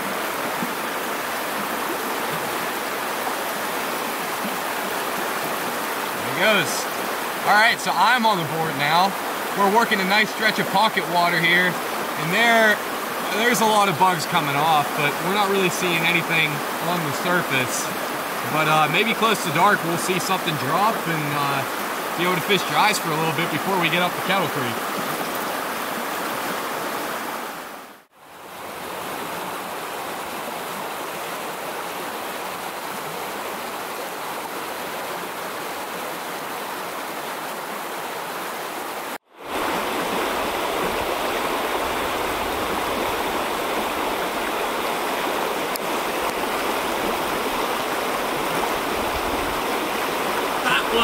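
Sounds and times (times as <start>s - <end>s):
creek water rushing over rocks: 0.0s - 51.0s.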